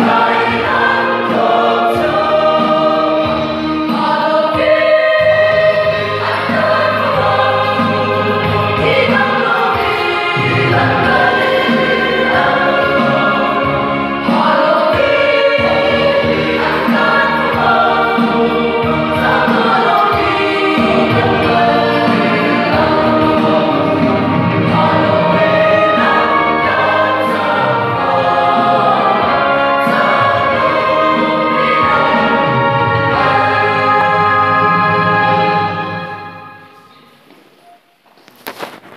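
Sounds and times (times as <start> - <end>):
mixed choir singing: 0.0 - 36.9.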